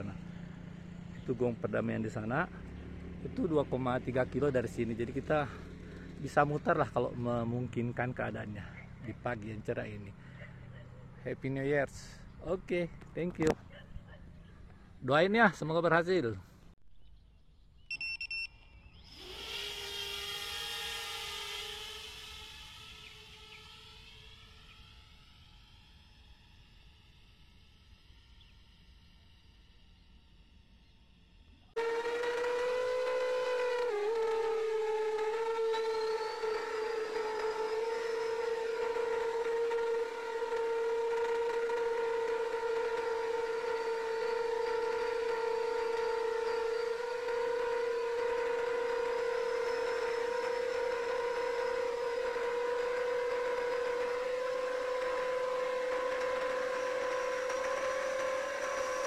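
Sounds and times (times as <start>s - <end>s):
quadcopter motors whining: 0.0s - 16.2s, 18.0s - 59.0s.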